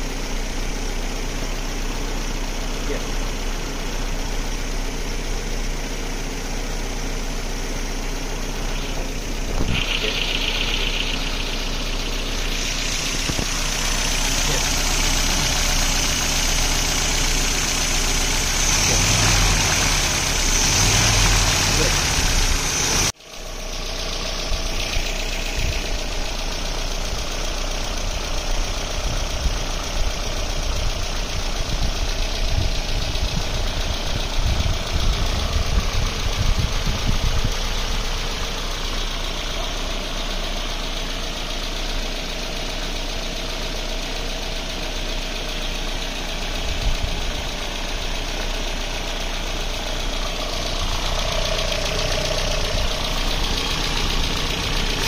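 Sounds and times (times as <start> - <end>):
four-cylinder engine idling: 0.0 - 55.0.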